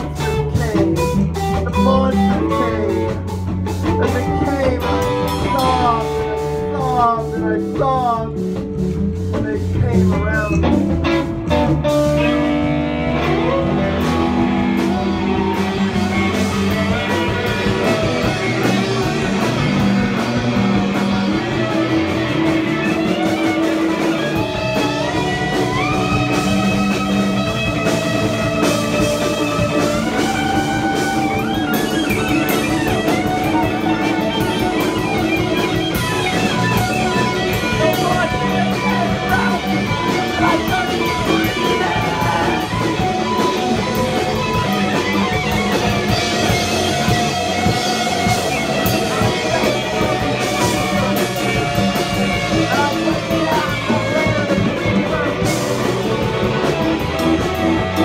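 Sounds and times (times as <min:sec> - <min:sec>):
live punk band playing: 0:00.0 - 0:58.0
long held high notes: 0:09.7 - 0:58.0.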